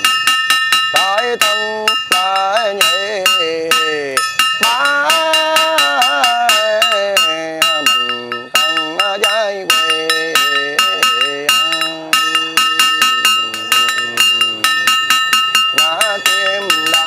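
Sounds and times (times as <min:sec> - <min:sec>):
small metal bell struck: 0:00.0 - 0:17.0
monk chanting: 0:01.0 - 0:15.1, 0:15.7 - 0:17.0.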